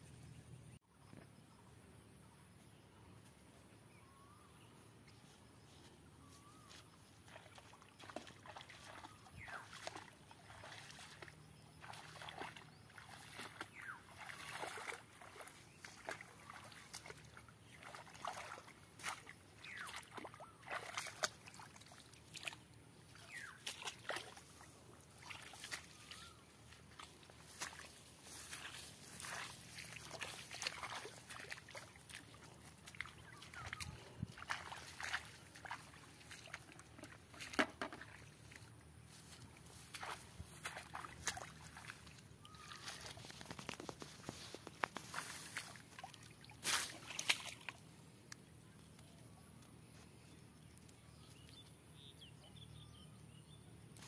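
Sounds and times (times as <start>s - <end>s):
footsteps in wet grass and mud: 4.2s - 51.8s.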